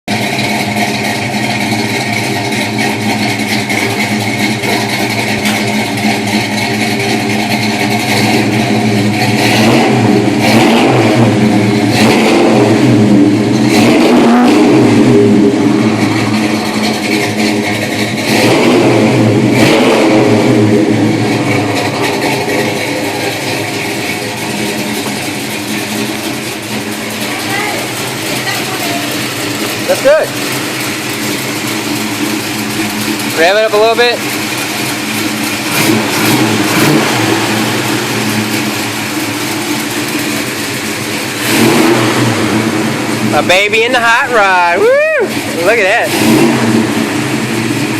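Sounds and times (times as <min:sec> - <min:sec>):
car engine idling and revving: 0:00.0 - 0:47.9.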